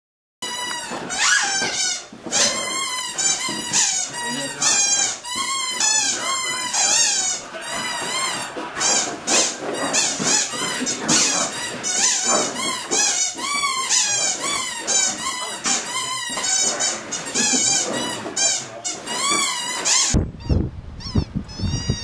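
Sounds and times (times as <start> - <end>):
squeaky dog toy squeaking: 0.4 - 22.0.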